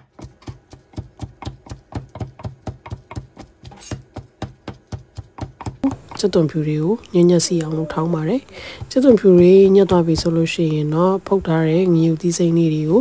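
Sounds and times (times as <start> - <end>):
wooden pestle thudding: 0.0 - 6.6, 7.6 - 12.8.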